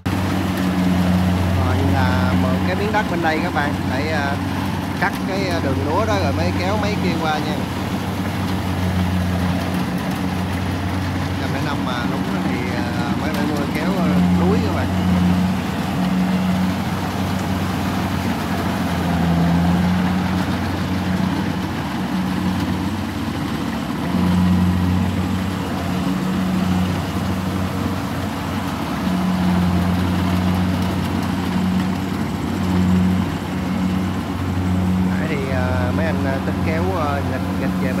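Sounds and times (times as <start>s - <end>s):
diesel harvester engines humming: 0.0s - 38.0s.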